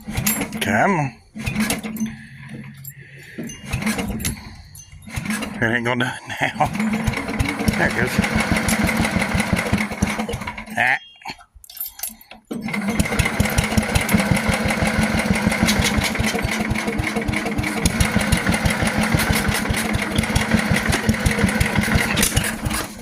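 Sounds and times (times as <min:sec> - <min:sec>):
tractor engine cranking: 0:00.0 - 0:23.0.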